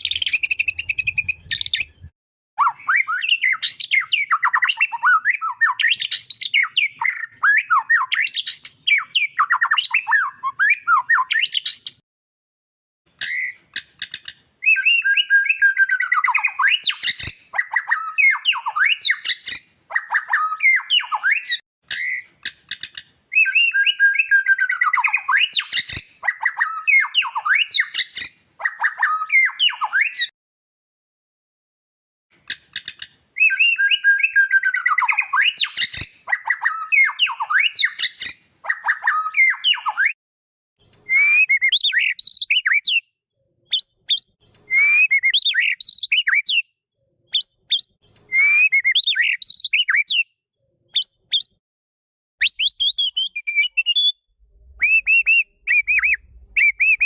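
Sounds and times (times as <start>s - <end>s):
bird singing whistled phrases: 0.0s - 12.0s, 13.2s - 13.6s, 14.6s - 22.2s, 23.3s - 30.3s, 33.4s - 40.2s, 41.0s - 43.1s, 43.7s - 46.7s, 47.3s - 50.4s, 51.0s - 51.6s, 52.4s - 57.0s.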